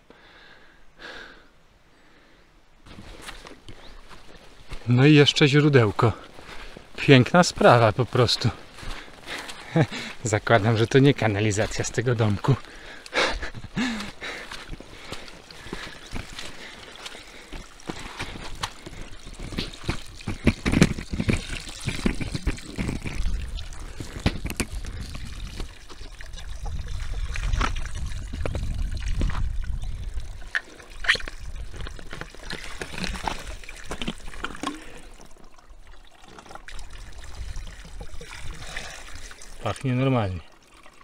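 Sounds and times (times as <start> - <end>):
spring water trickling and splashing: 2.9 - 41.0.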